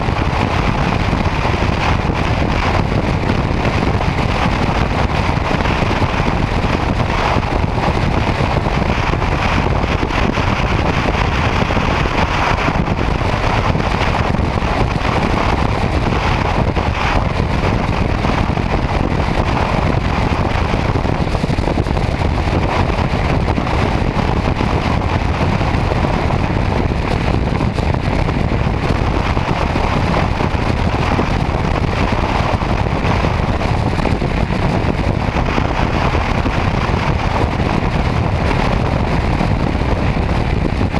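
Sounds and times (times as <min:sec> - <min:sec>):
motorcycle engine and tyre noise: 0:00.0 - 0:40.9
wind rush on microphone: 0:00.0 - 0:40.9.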